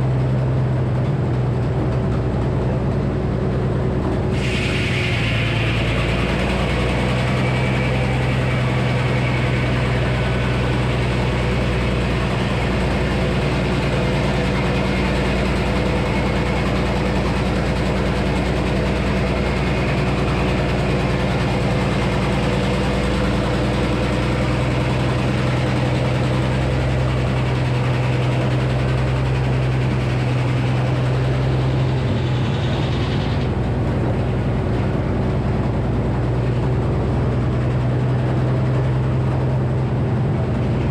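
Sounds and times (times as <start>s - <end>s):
circular saw running: 4.2s - 40.9s.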